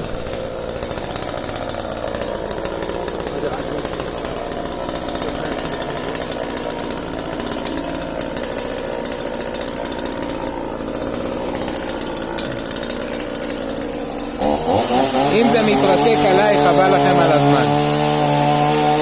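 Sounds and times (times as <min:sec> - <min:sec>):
chainsaw engine running: 0:00.0 - 0:19.0.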